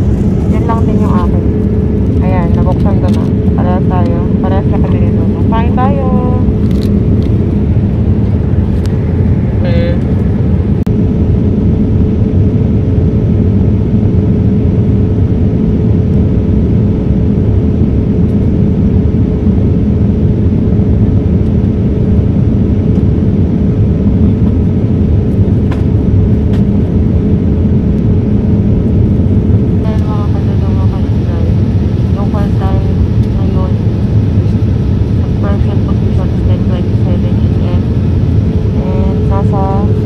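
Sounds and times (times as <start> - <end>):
airliner cabin rumble: 0.0 - 40.0
faint steady hum: 0.0 - 40.0.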